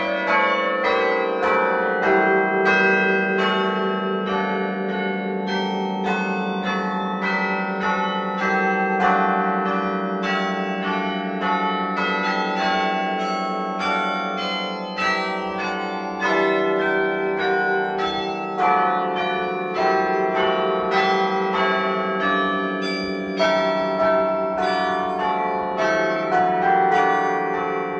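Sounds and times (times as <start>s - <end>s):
church bells ringing: 0.0s - 27.9s.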